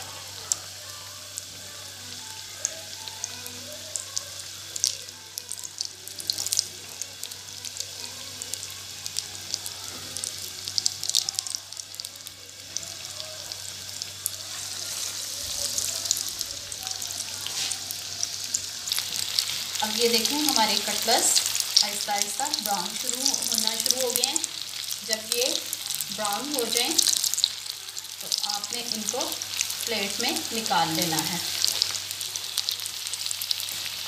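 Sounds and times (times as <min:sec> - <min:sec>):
food deep-frying in oil: 0:00.0 - 0:34.0.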